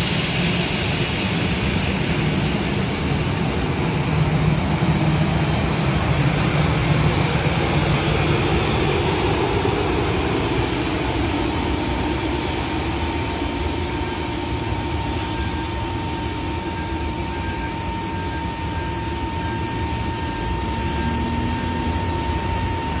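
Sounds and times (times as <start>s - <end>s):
jet engines rumbling: 0.0s - 23.0s
thin steady whine: 0.0s - 23.0s.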